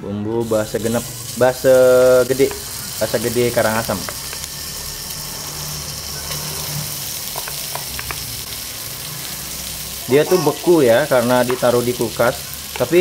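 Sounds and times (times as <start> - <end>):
paste sizzling in oil: 0.4 - 13.0.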